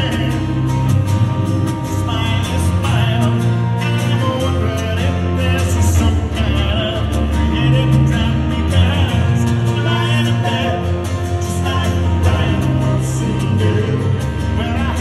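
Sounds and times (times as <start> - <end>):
man singing into a microphone: 0.0 - 0.9, 1.9 - 15.0
acoustic guitar strumming: 0.0 - 15.0
band accompaniment: 0.0 - 15.0.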